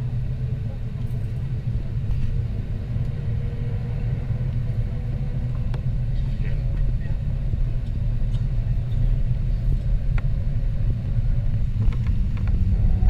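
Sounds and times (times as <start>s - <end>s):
aircraft engine rumble: 0.0s - 13.0s.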